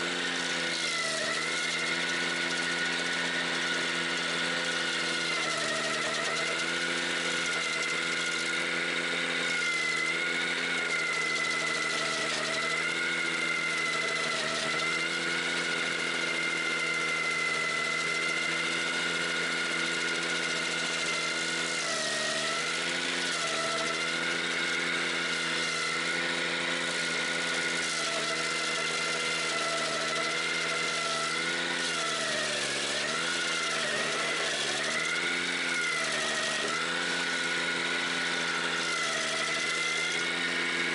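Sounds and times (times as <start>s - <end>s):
stump grinder chewing wood: 0.0s - 40.9s
tractor engine running hard: 0.0s - 40.9s.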